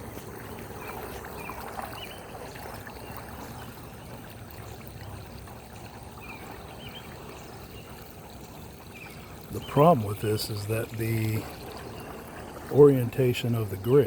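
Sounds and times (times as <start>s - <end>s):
water draining through drain grate: 0.0s - 14.0s.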